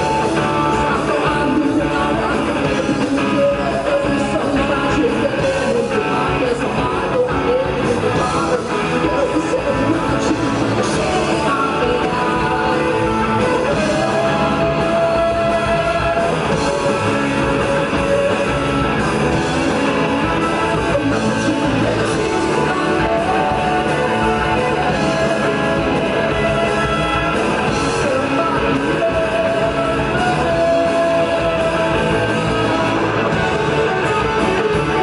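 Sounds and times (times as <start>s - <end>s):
man singing: 0.0s - 35.0s
rock band playing live: 0.0s - 35.0s.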